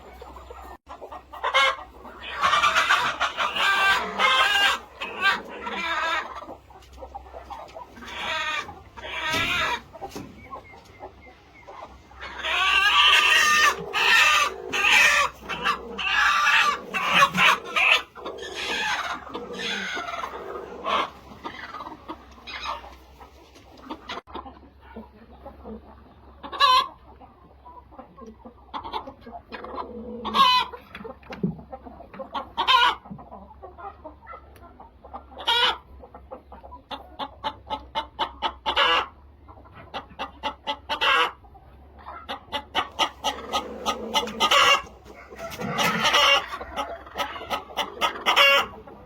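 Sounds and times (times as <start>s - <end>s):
chickens clucking and squawking: 0.0s - 49.0s.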